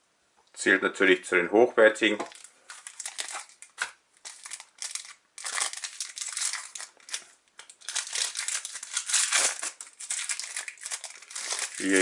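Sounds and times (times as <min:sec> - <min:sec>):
foil pack crinkling: 0:02.3 - 0:12.0.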